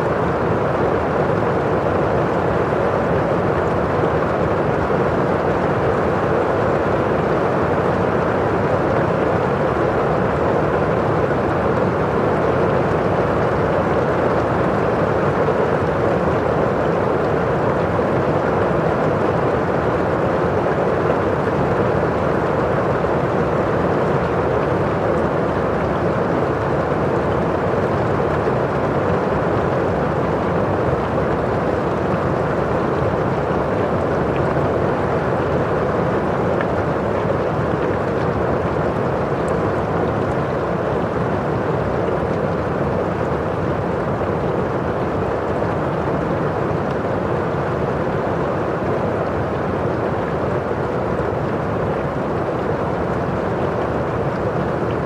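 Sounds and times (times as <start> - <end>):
rain falling outside: 0.0 - 55.0
rain on a window pane: 0.0 - 55.0.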